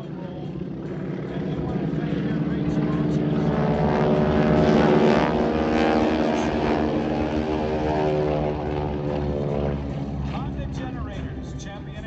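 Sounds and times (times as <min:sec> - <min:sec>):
propeller planes droning past: 0:00.0 - 0:12.0.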